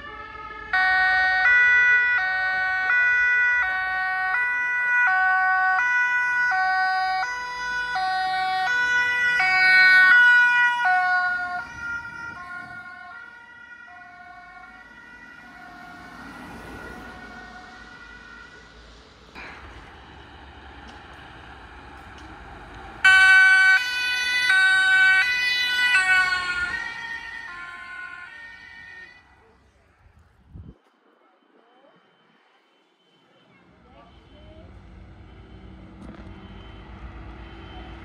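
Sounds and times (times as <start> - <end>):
two-tone emergency siren: 0.0 - 38.0.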